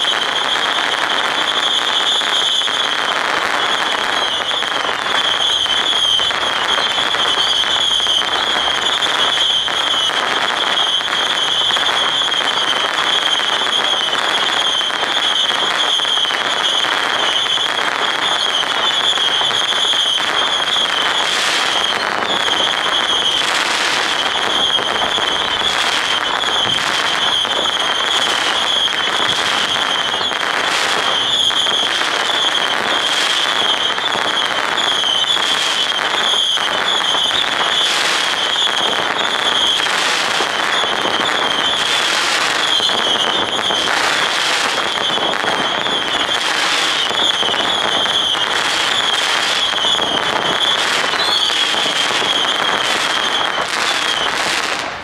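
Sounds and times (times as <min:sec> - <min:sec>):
fireworks crackling and popping: 0:00.0 - 0:55.0
high firework whistle: 0:00.0 - 0:55.0.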